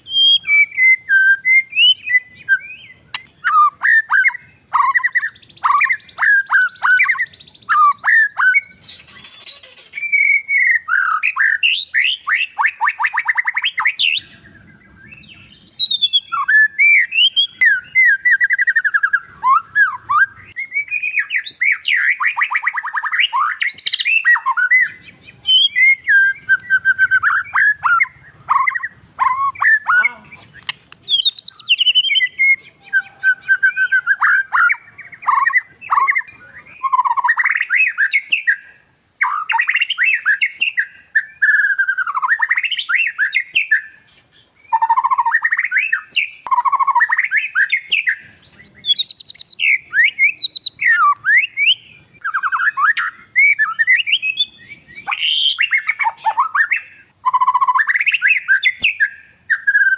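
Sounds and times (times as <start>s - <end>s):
bird singing whistled phrases: 0.0s - 44.0s, 44.6s - 59.9s.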